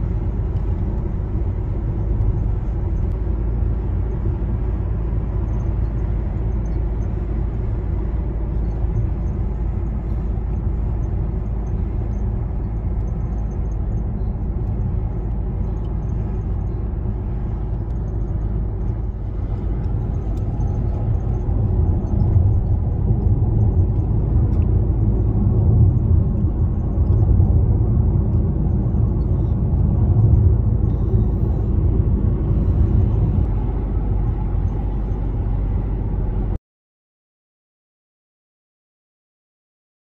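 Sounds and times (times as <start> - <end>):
highway driving rumble: 0.0 - 36.6.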